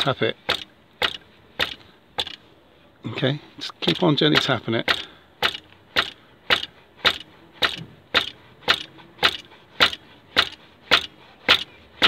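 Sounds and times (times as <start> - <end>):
mallet tapping a metal spanner: 0.5 - 2.4, 3.9 - 11.8.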